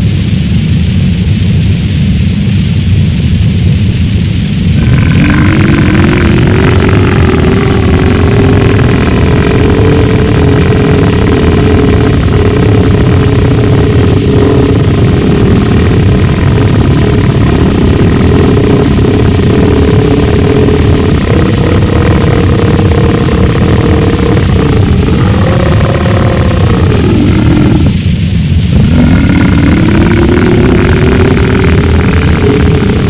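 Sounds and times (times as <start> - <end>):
distorted low rumble: 0.0 - 33.0
high whines: 0.0 - 33.0
droning tone sliding up: 4.1 - 33.0.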